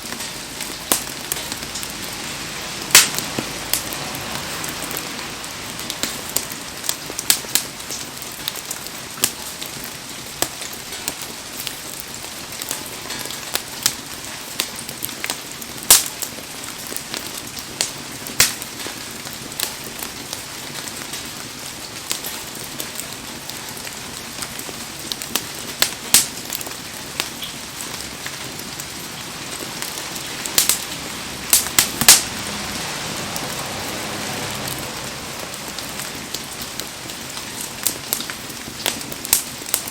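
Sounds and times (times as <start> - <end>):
heavy rain: 0.0 - 39.9
wood fire crackling: 0.0 - 39.9.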